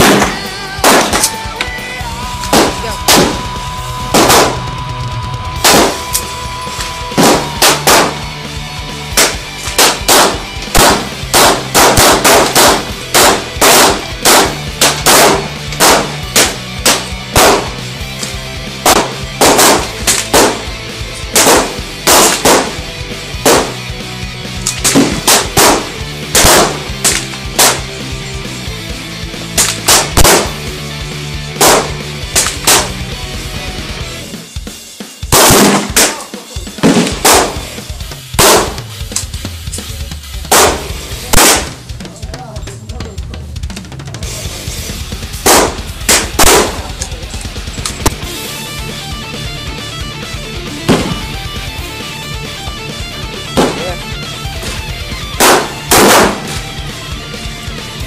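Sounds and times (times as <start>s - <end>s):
gunshots: 0.0s - 1.6s, 2.2s - 28.1s, 29.5s - 30.7s, 31.5s - 33.1s, 35.2s - 42.0s, 44.6s - 57.1s
heavy metal music: 0.0s - 58.0s.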